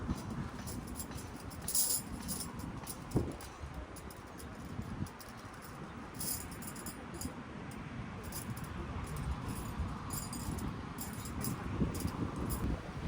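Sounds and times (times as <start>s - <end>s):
low wind-like rumble: 0.0s - 13.0s
light metallic clinking: 0.1s - 7.4s, 8.2s - 12.8s.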